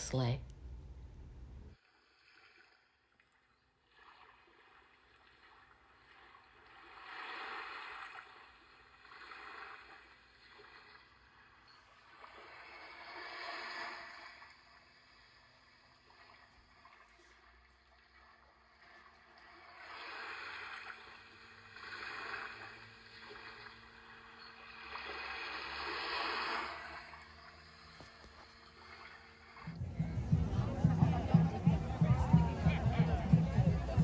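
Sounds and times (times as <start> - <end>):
faint waves washing on beach: 4.0 - 34.0.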